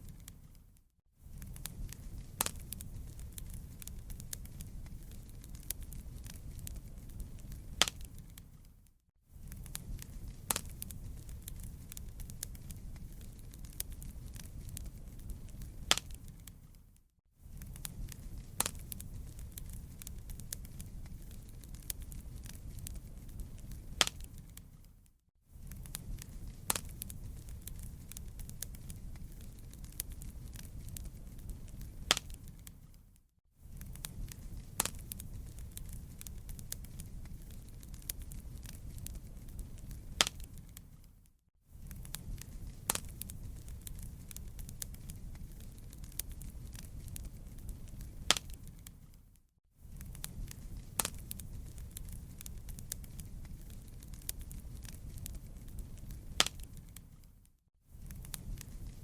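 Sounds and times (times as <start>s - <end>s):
campfire crackling: 0.0s - 8.8s, 9.4s - 25.0s, 25.6s - 41.2s, 41.8s - 57.4s, 58.0s - 59.0s.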